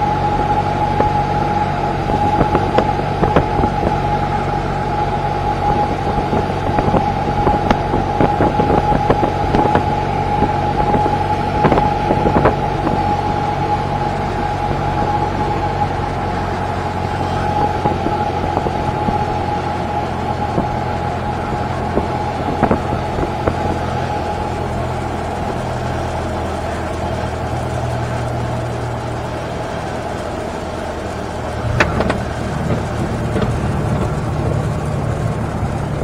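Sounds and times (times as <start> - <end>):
propeller airplane engine droning: 0.0 - 36.0
wheels touching down bump: 0.0 - 36.0.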